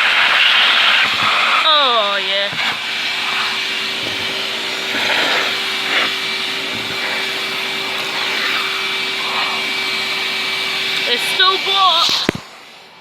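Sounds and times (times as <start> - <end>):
vacuum cleaner running: 0.0 - 13.0
rushing air: 2.5 - 13.0.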